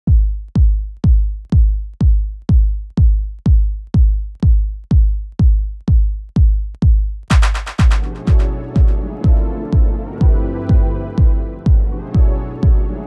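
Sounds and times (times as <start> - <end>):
electronic kick drum beat: 0.0 - 13.0.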